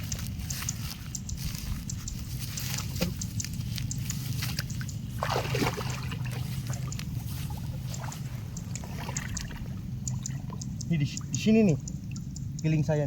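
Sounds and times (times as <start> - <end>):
creek water sloshing and splashing: 0.0 - 12.3.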